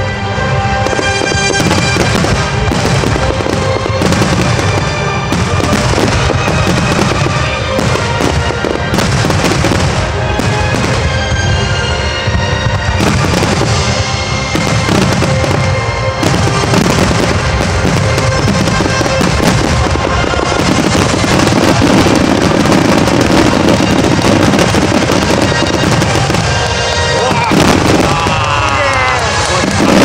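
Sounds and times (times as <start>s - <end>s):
fireworks bangs and crackling: 0.0s - 30.0s
music playing: 0.0s - 30.0s.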